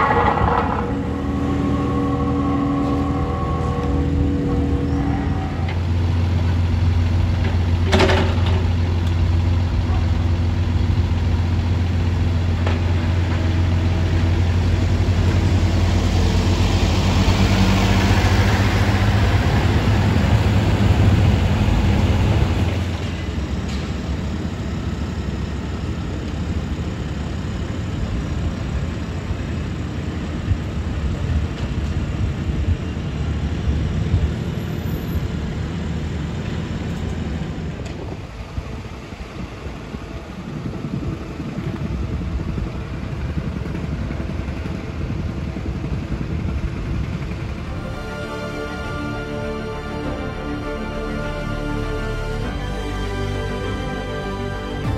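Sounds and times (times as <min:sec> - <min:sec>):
diesel engines idling: 0:00.0 - 0:54.9
rough engine rumble: 0:00.0 - 0:54.9.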